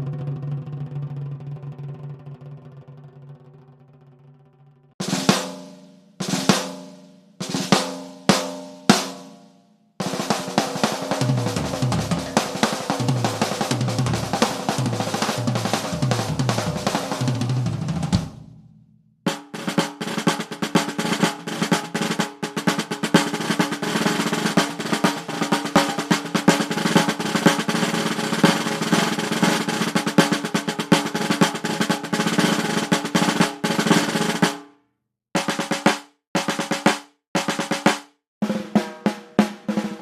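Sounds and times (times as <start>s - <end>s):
drum roll: 0.0s - 3.8s, 5.0s - 34.7s, 35.4s - 40.0s.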